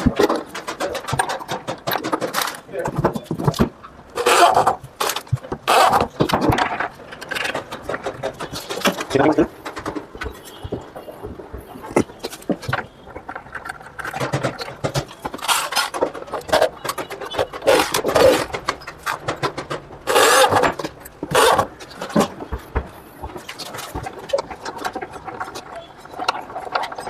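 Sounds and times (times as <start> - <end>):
metal hardware clicks and knocks: 0.0 - 4.0, 4.6 - 27.0.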